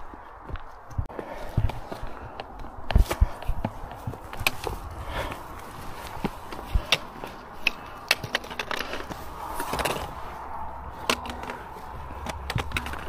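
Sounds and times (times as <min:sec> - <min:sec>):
footsteps on stony path: 0:00.0 - 0:13.0
wind rumble on microphone: 0:00.0 - 0:13.0.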